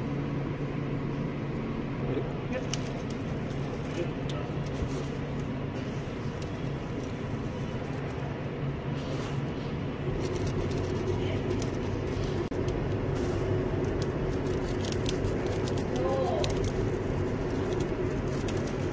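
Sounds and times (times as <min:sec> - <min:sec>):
machinery hum and rumble: 0:00.0 - 0:18.9.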